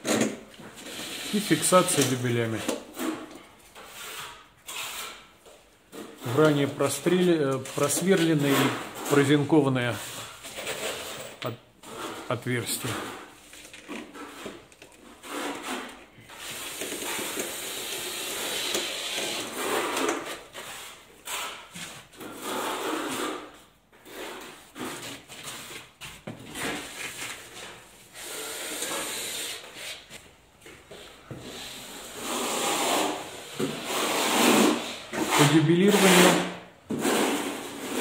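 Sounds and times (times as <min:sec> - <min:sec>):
scraping and rubbing: 0:00.0 - 0:30.2, 0:30.9 - 0:38.0.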